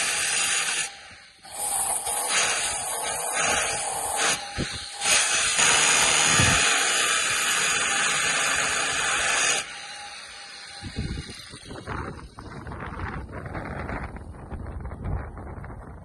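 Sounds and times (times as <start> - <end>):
metal-cutting torch hissing: 0.0 - 13.4.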